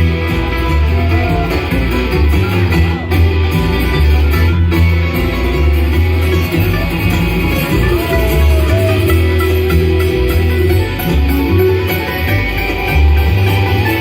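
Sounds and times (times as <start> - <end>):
bluegrass band playing: 0.0 - 14.0
picked guitar: 0.0 - 14.0.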